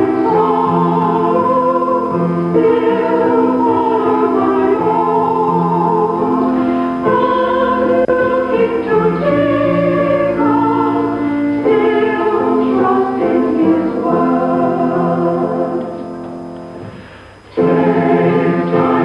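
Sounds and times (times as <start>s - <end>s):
choir singing a hymn: 0.0s - 19.0s
piano accompaniment: 0.0s - 19.0s.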